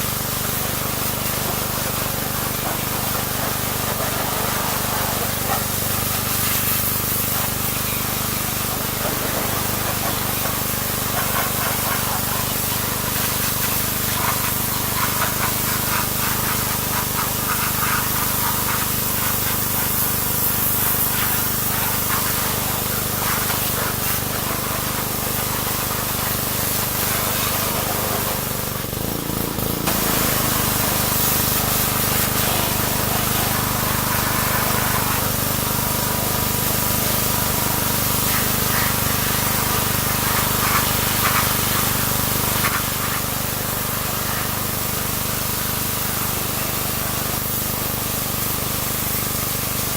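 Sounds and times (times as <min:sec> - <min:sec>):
pressure washer jet hissing: 0:00.0 - 0:49.9
pressure washer machine hum: 0:00.0 - 0:49.9.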